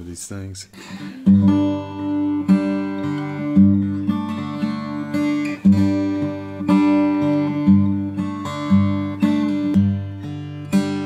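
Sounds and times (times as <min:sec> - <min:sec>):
acoustic guitar chords strummed: 0:00.8 - 0:11.0.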